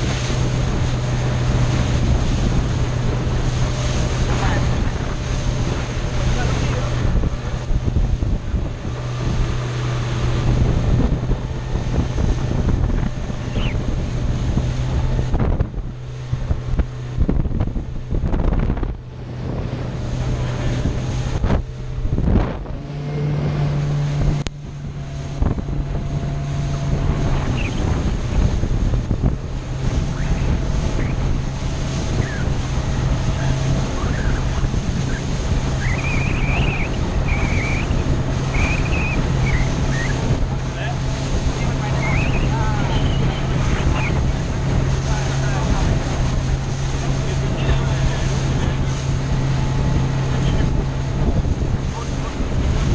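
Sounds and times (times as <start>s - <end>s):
motorboat engines humming: 0.0s - 52.9s
water rushing past hull: 0.0s - 52.9s
wind buffeting microphone: 0.0s - 52.9s.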